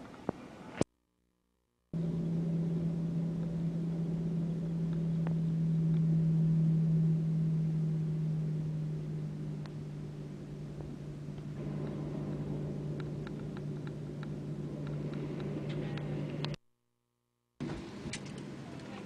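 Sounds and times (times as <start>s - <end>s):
jet engines droning in cabin: 2.0s - 16.6s, 17.6s - 19.0s.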